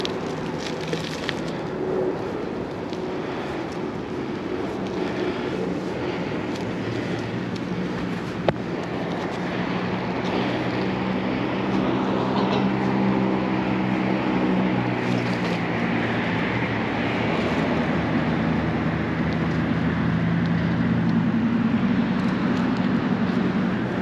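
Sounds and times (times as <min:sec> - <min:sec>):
bicycle tyres on pavement: 0:00.0 - 0:24.0.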